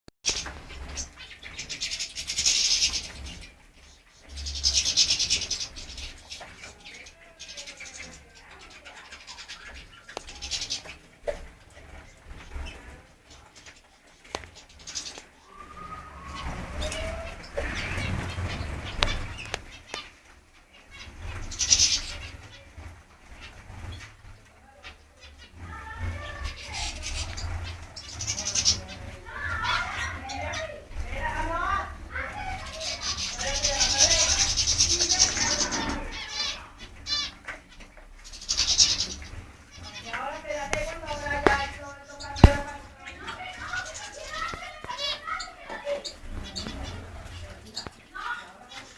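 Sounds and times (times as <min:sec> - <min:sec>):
small birds chirping: 0:00.2 - 0:48.9
wing flutters: 0:00.3 - 0:48.9.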